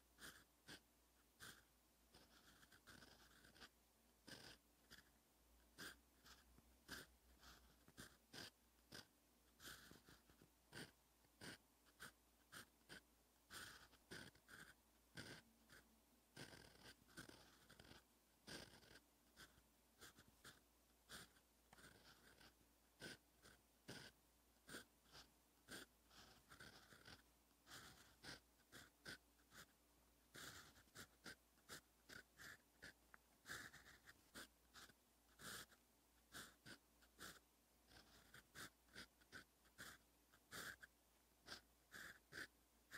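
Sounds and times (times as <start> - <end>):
pen nib scratching on paper: 0.0 - 42.9.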